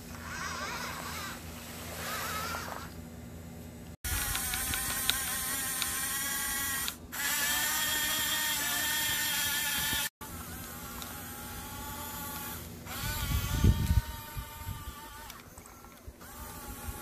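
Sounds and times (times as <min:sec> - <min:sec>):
toy motors whining: 0:00.1 - 0:01.4, 0:02.0 - 0:02.9, 0:04.1 - 0:17.0.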